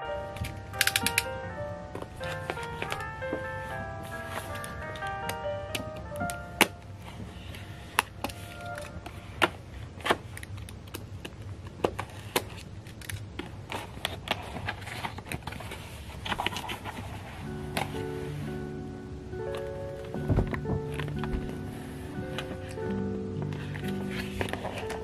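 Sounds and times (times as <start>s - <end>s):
cardboard rustling: 2.0s - 5.1s, 5.8s - 18.7s, 19.5s - 25.0s.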